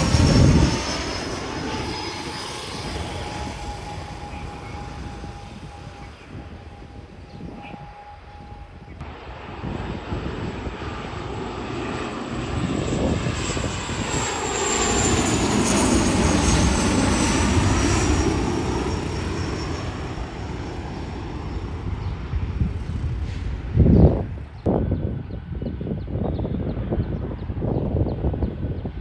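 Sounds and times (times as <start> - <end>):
high jet whine: 0.0 - 27.5
airliner engines roaring past: 0.0 - 29.0.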